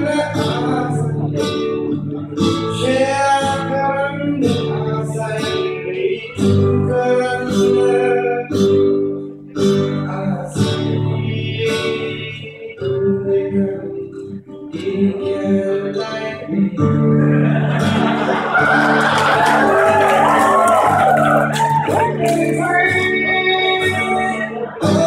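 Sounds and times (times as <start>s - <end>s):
audience noise: 0.0s - 12.5s, 15.2s - 25.0s
man singing: 0.0s - 17.9s, 19.4s - 25.0s
acoustic guitar strumming: 0.0s - 25.0s.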